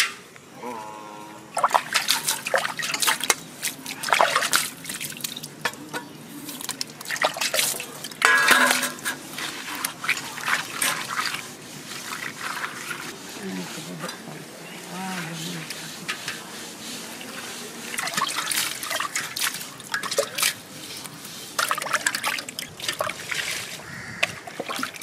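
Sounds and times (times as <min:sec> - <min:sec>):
water splashing and trickling: 0:00.8 - 0:25.0
water pouring from a bowl: 0:01.5 - 0:14.2, 0:15.2 - 0:25.0.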